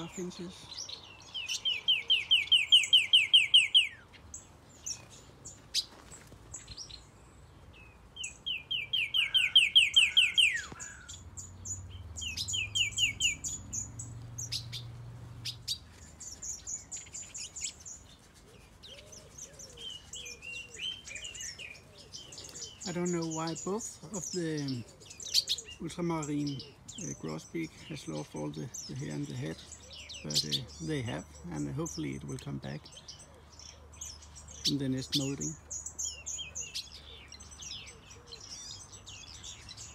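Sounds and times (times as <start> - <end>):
high bird chirps and calls: 0.0 - 39.9
songbird trill: 0.0 - 39.9.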